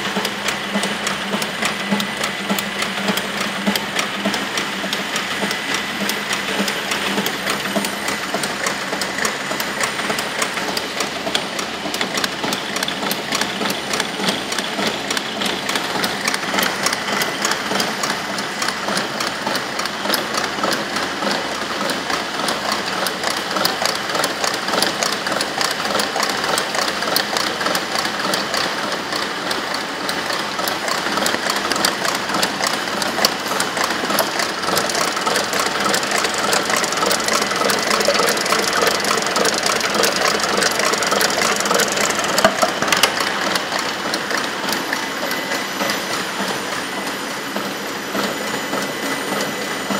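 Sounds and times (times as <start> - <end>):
industrial machine clattering: 0.0 - 49.9.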